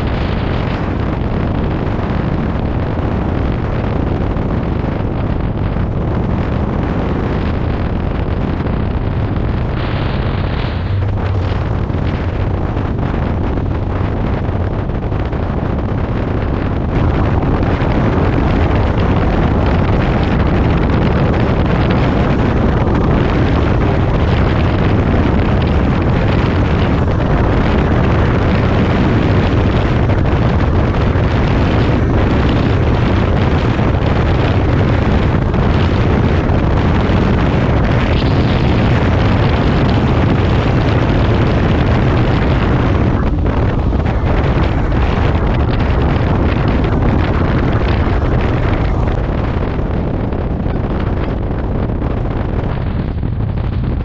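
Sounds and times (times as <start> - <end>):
trike engine running hard: 0.0 - 54.0
wind rushing over microphone: 0.0 - 54.0.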